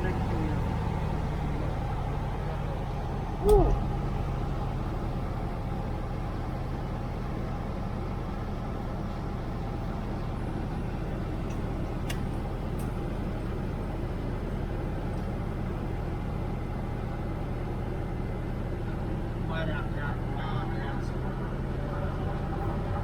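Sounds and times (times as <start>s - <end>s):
light aircraft engine and propeller: 0.0s - 23.0s.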